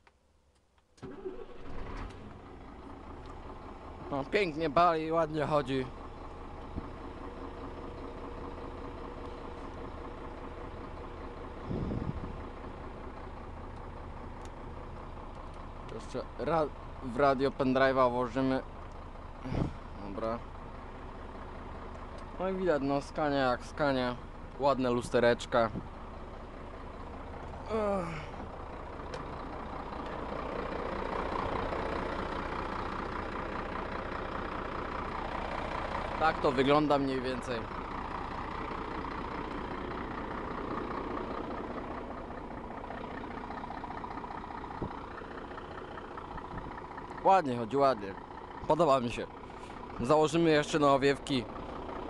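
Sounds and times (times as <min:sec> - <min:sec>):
diesel engine idling: 0:01.0 - 0:52.0.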